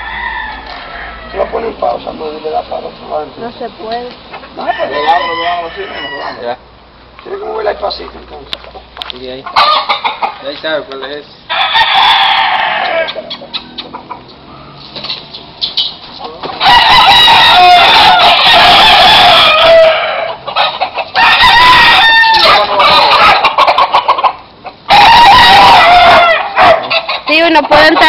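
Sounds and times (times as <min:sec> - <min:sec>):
roosters crowing: 0:00.0 - 0:03.3, 0:04.3 - 0:08.0, 0:08.7 - 0:28.0.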